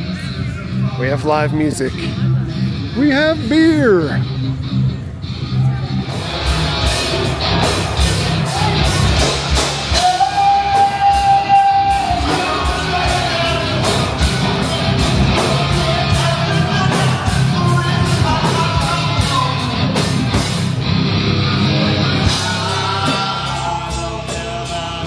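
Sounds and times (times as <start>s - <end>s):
bass guitar: 0.0s - 25.0s
electric guitar: 1.9s - 25.0s.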